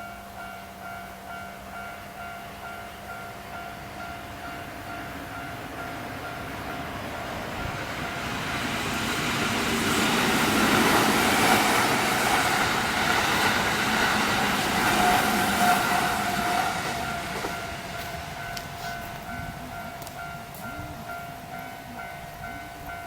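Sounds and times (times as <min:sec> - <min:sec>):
level crossing warning bell: 0:00.0 - 0:23.0
train passing: 0:00.0 - 0:23.0.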